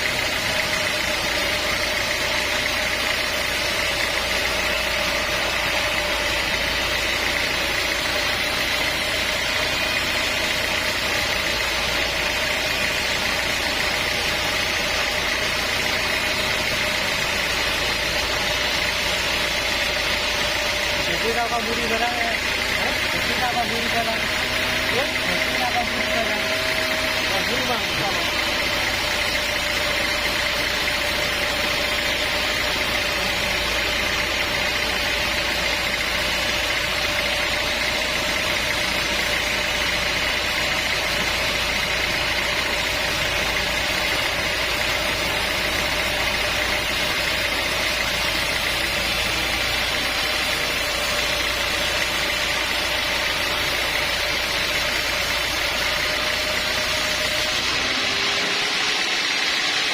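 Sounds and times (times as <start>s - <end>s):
sawmill engine whining: 0.0s - 59.9s.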